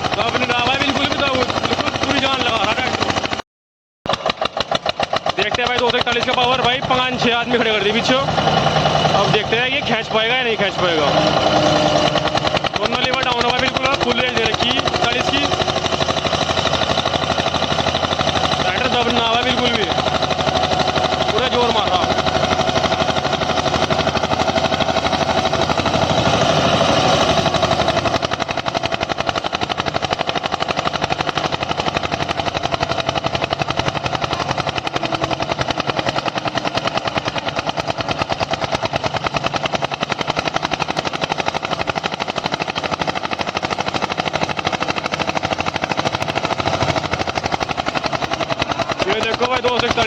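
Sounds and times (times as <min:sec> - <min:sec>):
tractor engine chugging under load: 0:00.0 - 0:03.4, 0:04.1 - 0:50.0.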